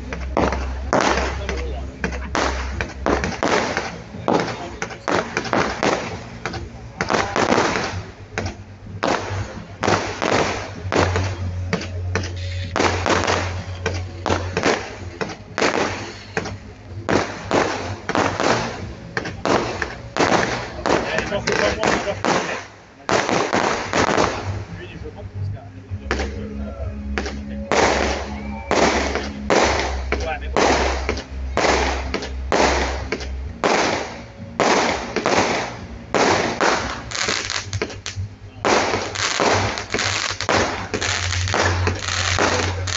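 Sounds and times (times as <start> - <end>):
firework bangs with crackle: 0.1 - 24.7, 27.2 - 42.9.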